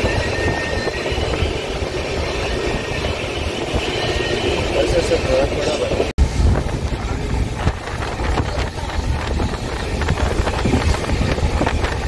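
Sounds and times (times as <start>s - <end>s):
wind buffeting the microphone: 0.0s - 4.8s, 5.6s - 12.0s
moving train rumble: 0.0s - 12.0s.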